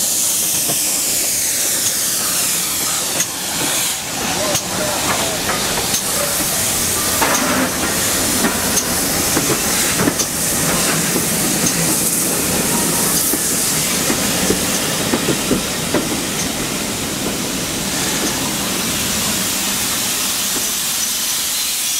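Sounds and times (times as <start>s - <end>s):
steam train hissing: 0.0s - 21.9s
train wheels clattering over rails: 0.0s - 21.9s.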